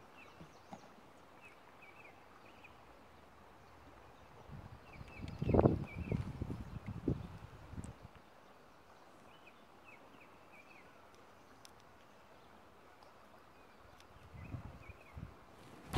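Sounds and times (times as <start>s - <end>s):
faint hiss of open air: 0.0s - 15.9s.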